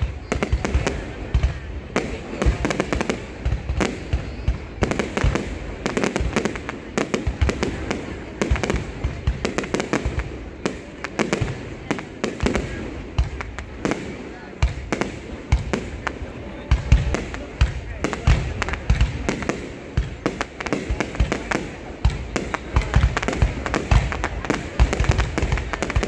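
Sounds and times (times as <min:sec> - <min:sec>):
deep firework booms: 0:00.0 - 0:26.0
fireworks bangs and crackles: 0:00.0 - 0:26.0.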